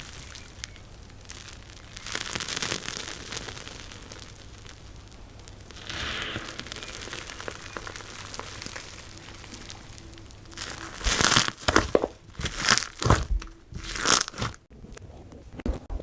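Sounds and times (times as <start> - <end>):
crunchy slime crackling and crunching: 0.0 - 14.7.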